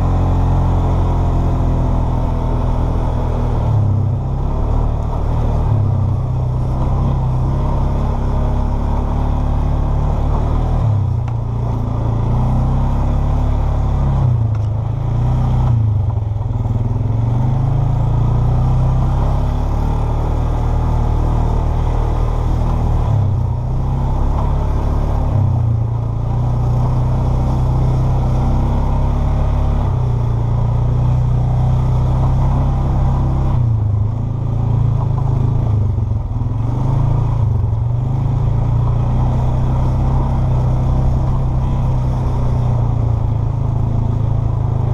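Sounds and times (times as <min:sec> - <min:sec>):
quad bike engine running: 0:00.0 - 0:44.9.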